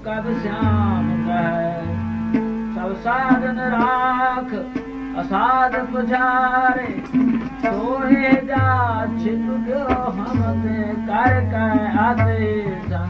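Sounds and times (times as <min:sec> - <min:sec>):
gliding vocal melody over drone: 0:00.0 - 0:11.6
tabla strokes: 0:00.0 - 0:13.0.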